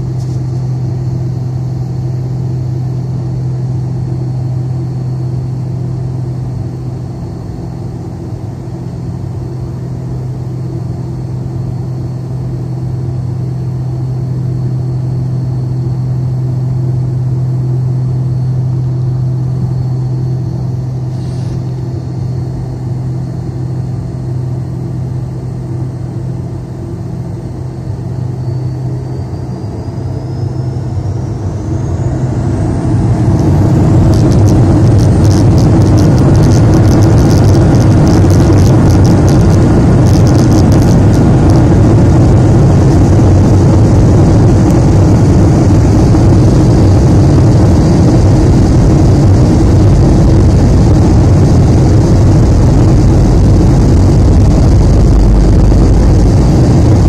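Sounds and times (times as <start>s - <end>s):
jet engine roar: 0.0s - 57.0s
jet engine whine rising: 0.0s - 57.0s.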